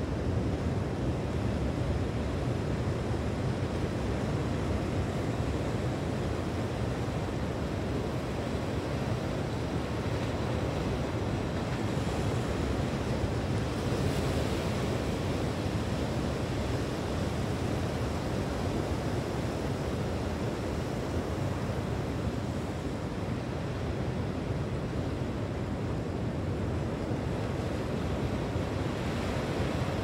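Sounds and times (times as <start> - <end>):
ocean surf washing: 1.1 - 30.0.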